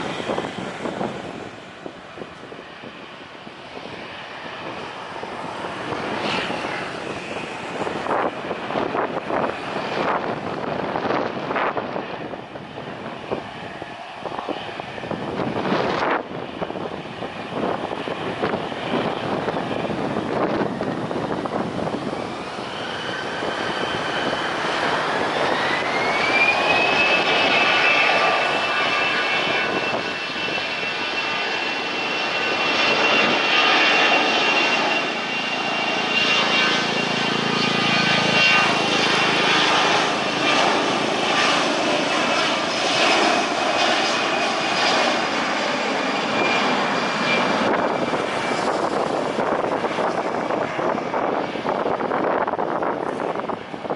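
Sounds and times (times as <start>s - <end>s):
jet engine whine: 0.0s - 53.9s.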